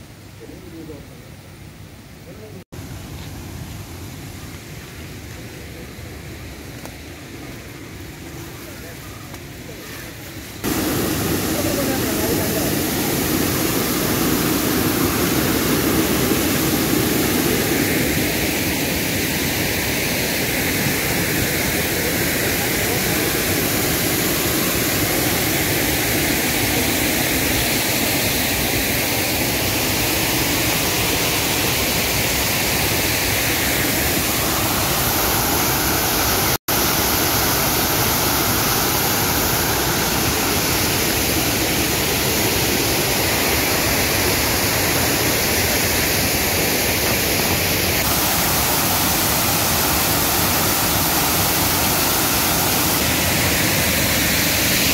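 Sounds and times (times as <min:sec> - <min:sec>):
waterfall rushing: 0:08.1 - 0:54.9.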